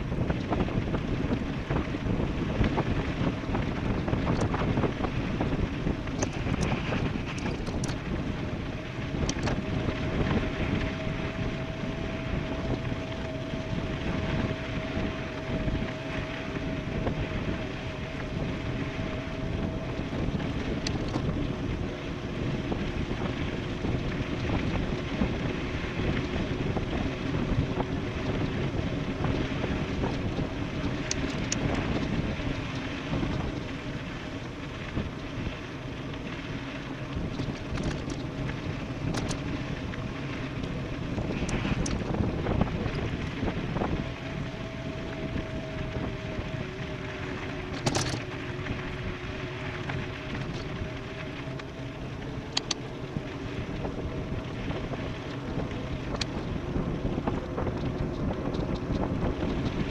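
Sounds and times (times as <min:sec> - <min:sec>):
faint steady hum: 0:00.0 - 0:59.9
wind buffeting microphone: 0:00.0 - 0:59.9.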